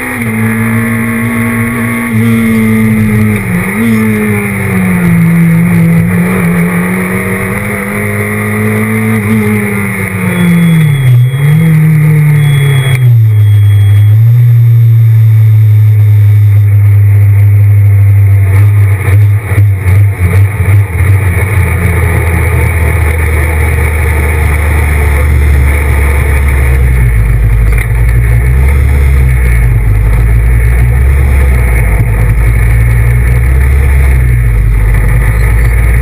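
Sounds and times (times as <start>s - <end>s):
car engine at low revs: 0.0s - 36.0s.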